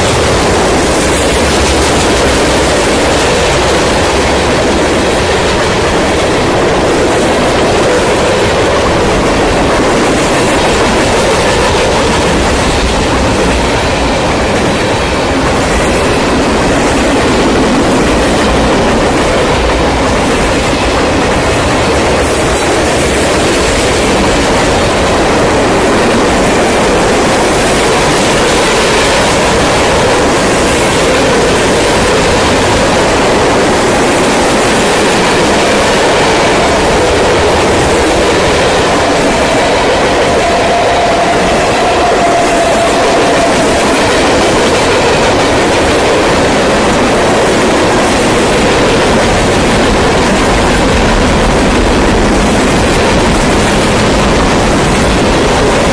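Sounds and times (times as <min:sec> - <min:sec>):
freight train rolling past: 0:00.0 - 0:55.9.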